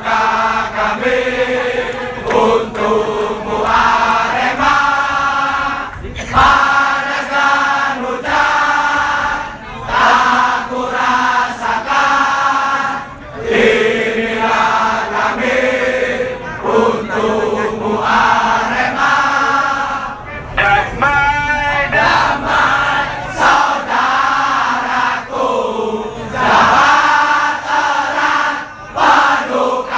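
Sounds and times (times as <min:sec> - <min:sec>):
crowd singing a chant: 0:00.0 - 0:29.9.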